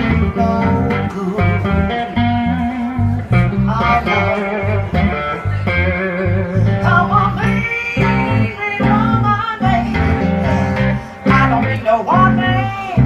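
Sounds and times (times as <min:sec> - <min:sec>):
woman singing: 0:00.0 - 0:03.1, 0:03.7 - 0:05.2, 0:06.4 - 0:13.0
amplified blues guitars: 0:00.0 - 0:13.0.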